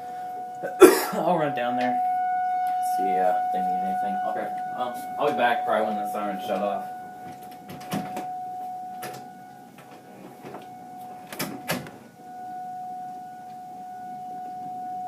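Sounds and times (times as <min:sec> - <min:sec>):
warning siren steady tone: 0:00.0 - 0:15.0.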